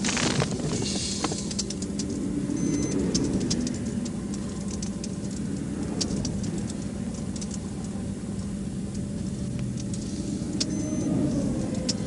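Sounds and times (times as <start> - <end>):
highway traffic passing: 0.0 - 12.0
vehicle engine idling: 0.0 - 12.0.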